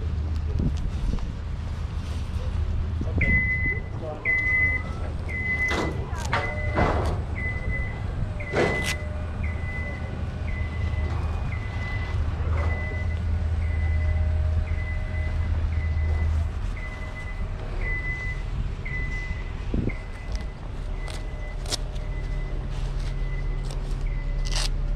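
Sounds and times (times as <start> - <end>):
reversing alarm beeps: 3.1 - 24.5.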